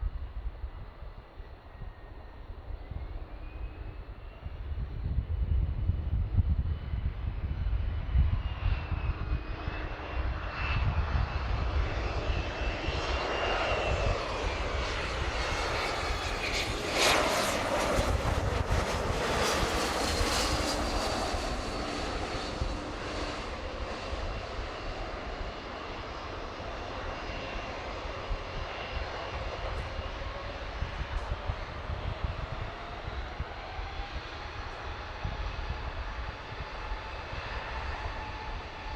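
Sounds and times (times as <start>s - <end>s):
jet airliner passing: 0.0s - 38.9s.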